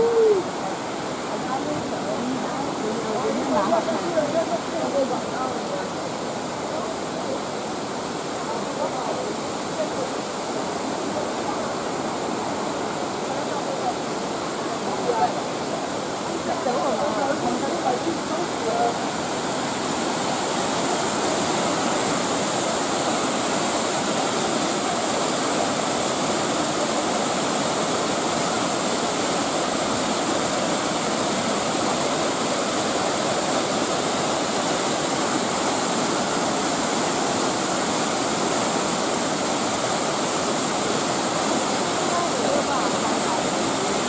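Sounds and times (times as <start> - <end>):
rush of falling water: 0.0 - 44.0.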